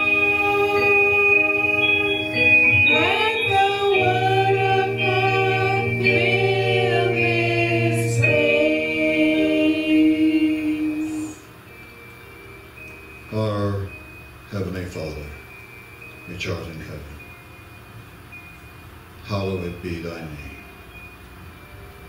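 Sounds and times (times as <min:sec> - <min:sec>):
voices singing slow worship song: 0:00.0 - 0:21.3.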